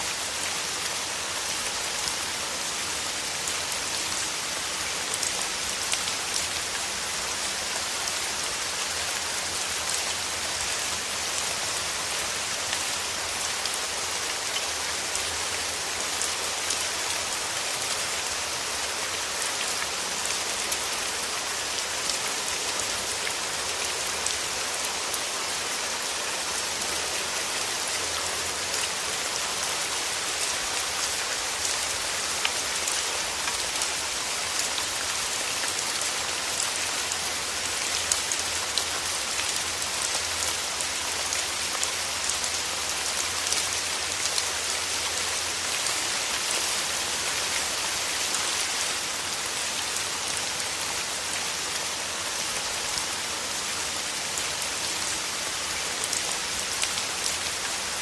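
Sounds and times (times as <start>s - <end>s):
rain falling on petals: 0.0s - 58.0s.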